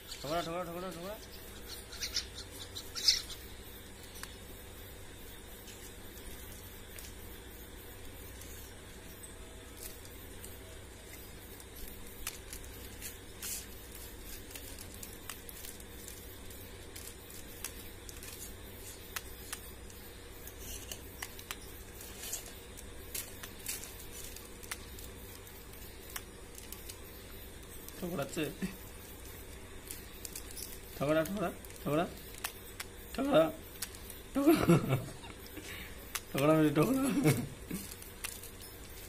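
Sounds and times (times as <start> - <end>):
beaks pecking plastic: 0.0 - 39.0
steady low hum: 0.0 - 39.0.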